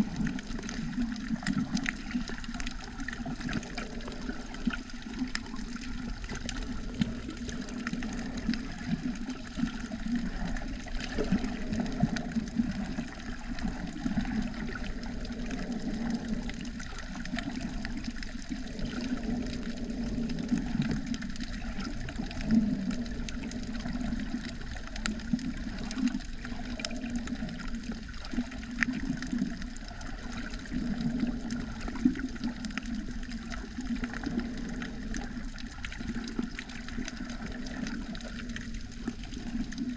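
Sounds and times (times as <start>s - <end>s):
small underwater clicks and crackles: 0.0s - 39.9s
underwater water sloshing: 0.0s - 39.9s.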